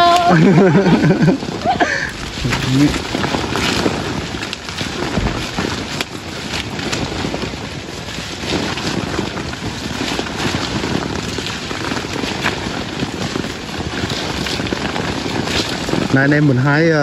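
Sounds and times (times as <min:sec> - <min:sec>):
cherries dropping onto a tarp: 0:00.0 - 0:16.8
leaves and twigs rustling: 0:00.0 - 0:17.0.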